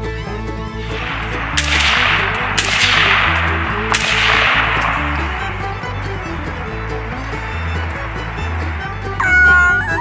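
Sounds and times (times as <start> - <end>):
bluegrass music: 0.0 - 10.0
sharp cracks with hissing tails: 0.8 - 9.2.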